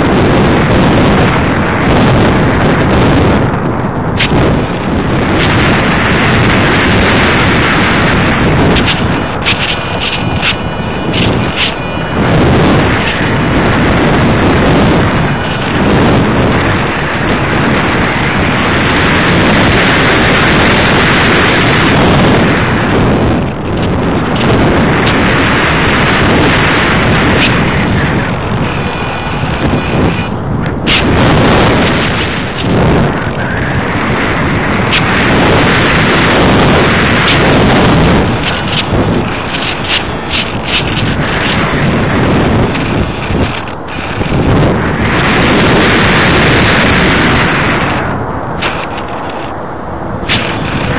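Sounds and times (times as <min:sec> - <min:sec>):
loud wind rushing over microphone: 0:00.0 - 0:50.9.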